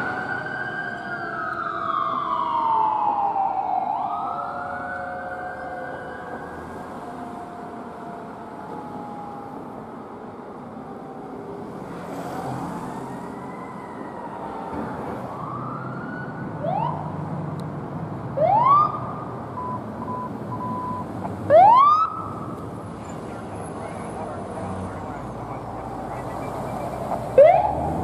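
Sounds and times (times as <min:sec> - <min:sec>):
emergency sirens wailing and whooping: 0:00.0 - 0:28.0.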